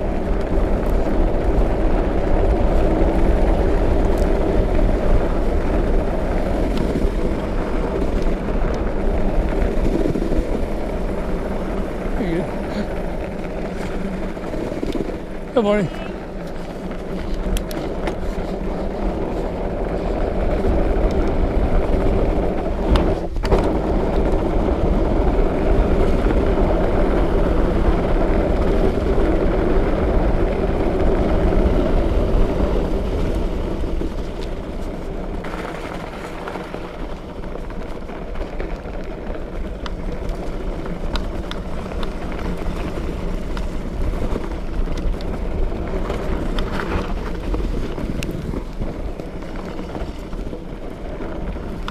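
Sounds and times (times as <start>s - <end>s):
bike tyres rumbling over ground: 0.0s - 51.9s.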